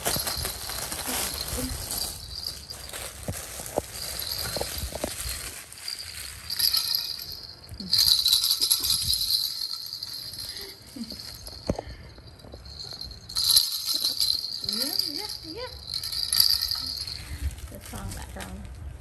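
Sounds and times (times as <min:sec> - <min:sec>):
baby rattle jingling: 0:00.0 - 0:18.4.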